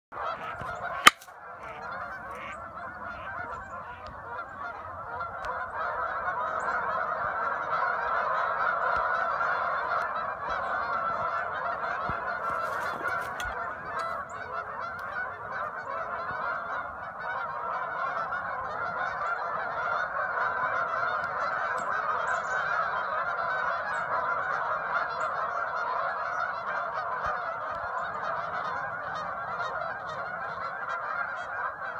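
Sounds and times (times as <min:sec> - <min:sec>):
flock of geese honking: 0:00.1 - 0:31.9.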